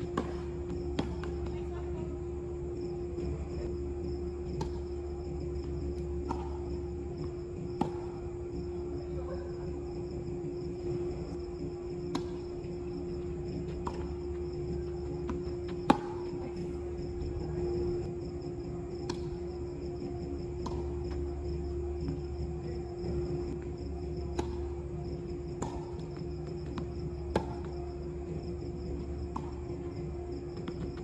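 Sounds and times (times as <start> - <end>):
tennis balls struck by rackets: 0.0 - 9.0, 10.4 - 18.1, 18.9 - 31.0
insects chirping: 0.0 - 31.0
steady hum: 0.0 - 31.0.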